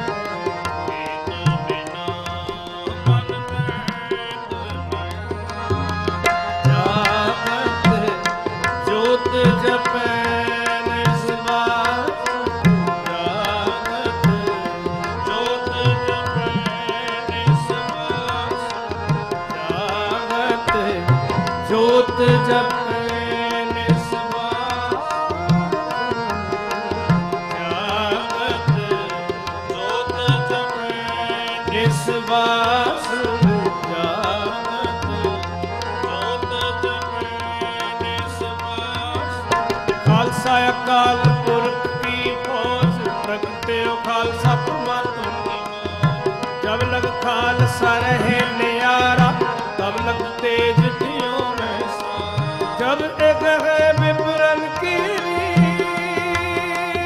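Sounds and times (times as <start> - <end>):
harmoniums holding chords: 0.0 - 57.0
tabla playing rhythm: 0.0 - 57.0.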